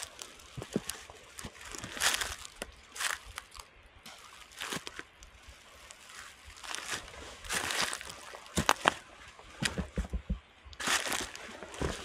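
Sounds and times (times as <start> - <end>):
footsteps on dry leaves: 0.0 - 9.7, 10.8 - 12.0.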